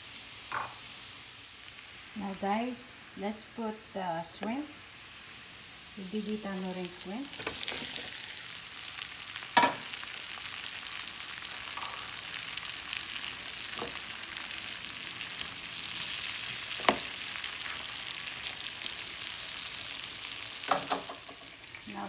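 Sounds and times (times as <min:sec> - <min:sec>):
shrimp sizzling in a pan: 0:00.0 - 0:22.0.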